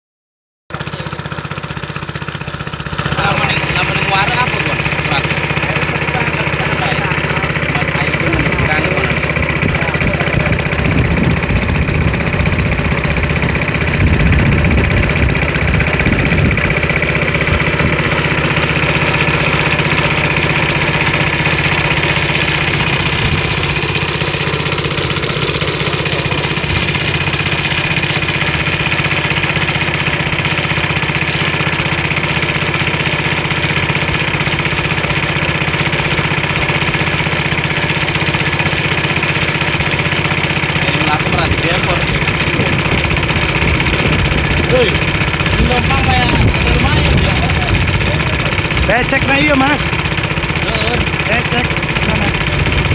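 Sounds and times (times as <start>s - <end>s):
boat engine running: 0.7s - 52.9s.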